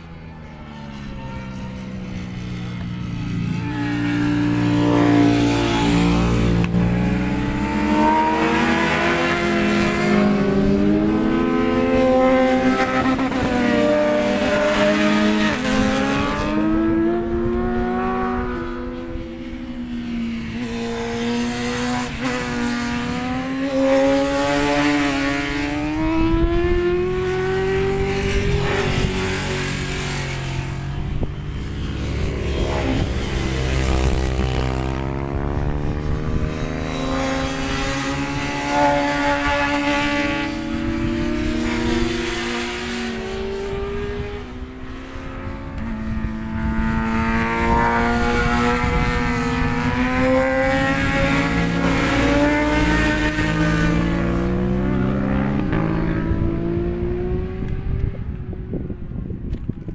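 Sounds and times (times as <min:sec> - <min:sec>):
racing motorcycles revving: 0:00.0 - 0:59.9.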